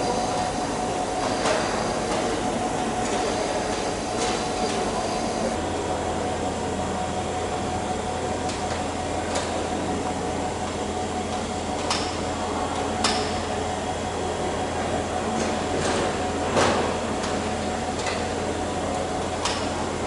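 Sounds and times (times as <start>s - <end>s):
workshop machinery hum: 0.0s - 20.0s.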